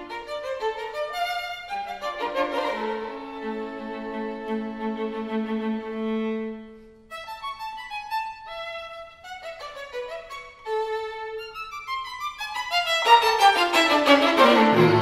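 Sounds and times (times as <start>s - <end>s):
solo violin playing: 0.0s - 15.0s
string ensemble: 0.0s - 15.0s.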